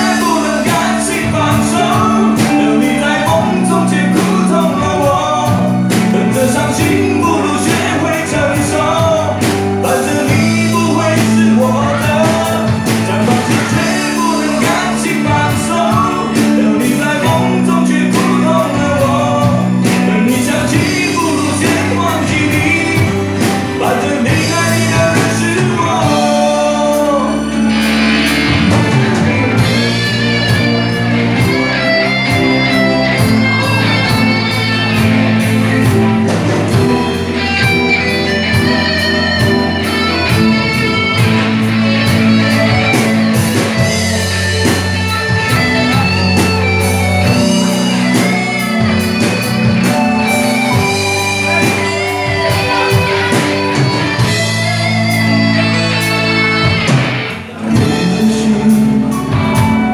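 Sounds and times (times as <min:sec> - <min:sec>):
bass: 0:00.0 - 0:59.9
drums: 0:00.0 - 0:59.9
electric guitar melody: 0:00.0 - 0:59.9.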